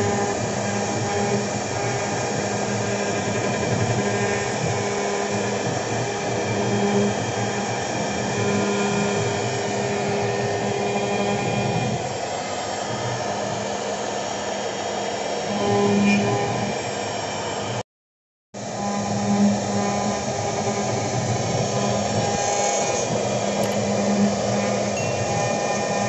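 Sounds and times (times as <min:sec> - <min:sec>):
router spindle motor hum: 0:00.0 - 0:17.8, 0:18.6 - 0:26.0.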